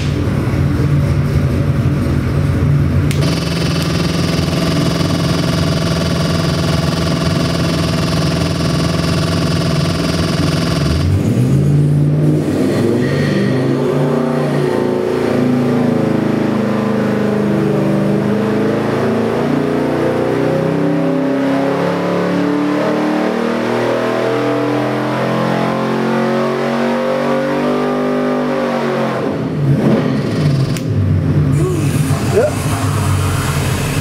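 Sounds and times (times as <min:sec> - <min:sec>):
engine revving under load: 0:00.0 - 0:34.0.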